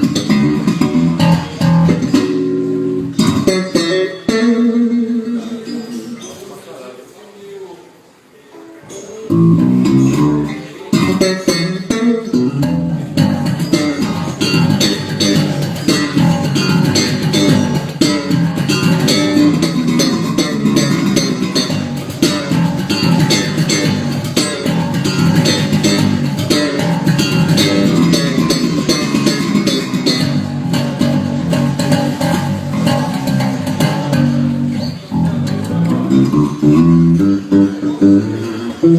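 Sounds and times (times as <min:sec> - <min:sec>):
electric bass guitar line: 0:00.0 - 0:05.6, 0:09.3 - 0:38.9
guitar: 0:00.0 - 0:06.8, 0:08.5 - 0:38.9.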